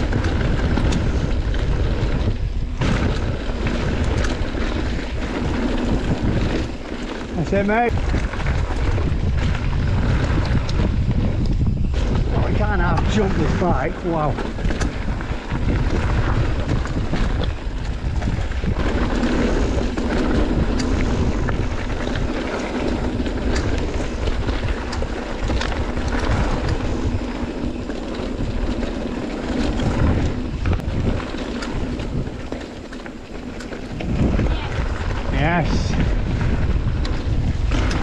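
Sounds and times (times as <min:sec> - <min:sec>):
bike clicks and rattles: 0:00.0 - 0:38.0
tyres rumbling on trail: 0:00.0 - 0:38.0
wind buffeting microphone: 0:00.0 - 0:38.0.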